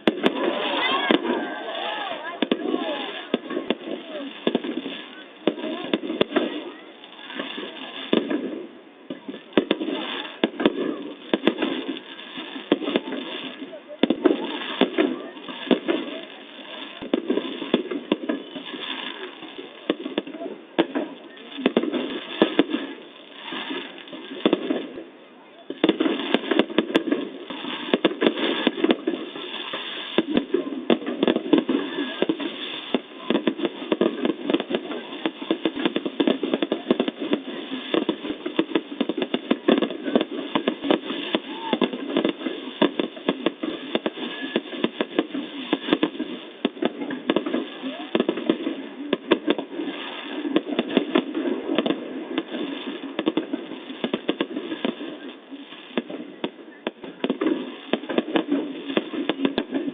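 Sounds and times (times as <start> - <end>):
fireworks popping and banging: 0.0 - 59.9.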